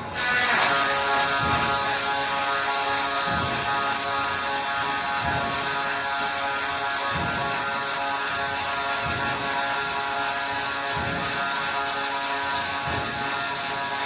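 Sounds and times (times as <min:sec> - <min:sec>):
electrical hum: 0:00.0 - 0:14.0
welding machine hissing: 0:00.0 - 0:14.0.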